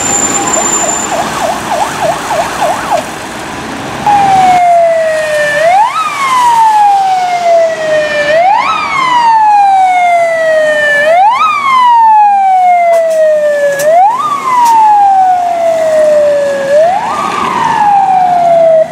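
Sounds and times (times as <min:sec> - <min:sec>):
fire engine siren wailing: 0:00.0 - 0:18.9.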